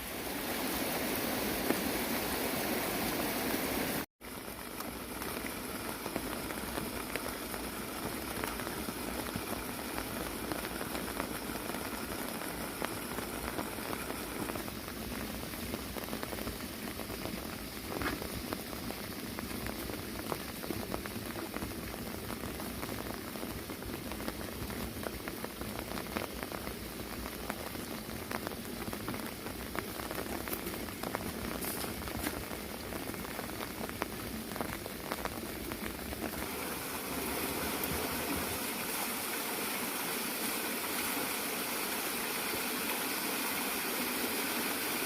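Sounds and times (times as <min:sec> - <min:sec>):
water splashing into pond: 0:00.0 - 0:45.0.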